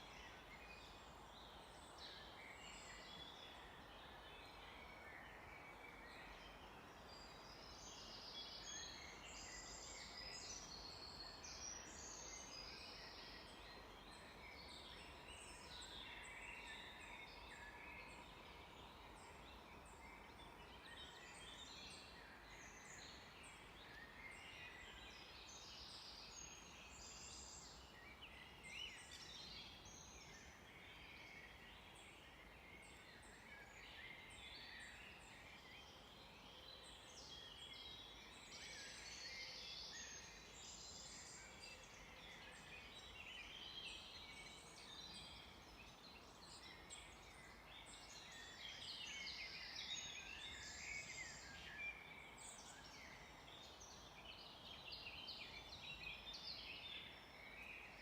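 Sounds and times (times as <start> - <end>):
low steady hiss: 0.0 - 58.0
songbirds chirping and trilling: 0.0 - 58.0.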